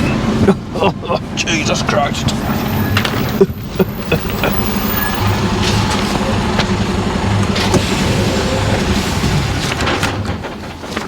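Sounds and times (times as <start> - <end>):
diesel engine heard from cab: 0.0 - 11.0.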